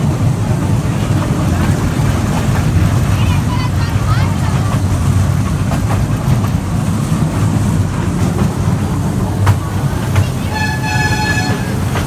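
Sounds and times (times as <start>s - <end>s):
rail clicks: 0.0s - 12.0s
toy train rumbling on track: 0.0s - 12.0s.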